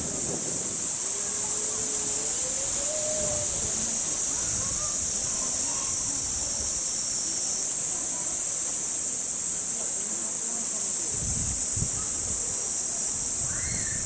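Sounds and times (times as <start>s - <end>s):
cicadas shrilling: 0.0s - 14.0s.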